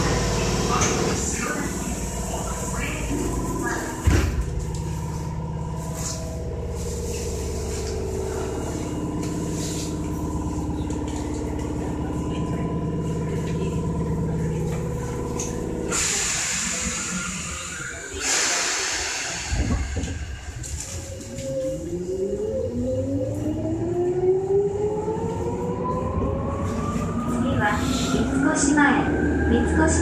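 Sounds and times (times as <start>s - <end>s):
train equipment humming: 0.0s - 30.0s.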